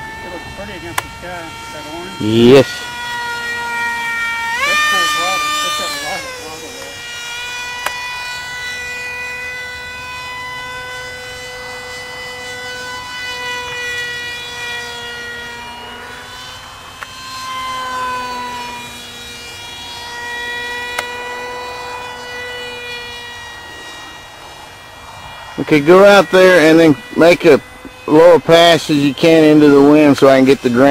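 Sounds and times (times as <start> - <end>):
model plane motor buzzing whine: 0.0 - 30.9.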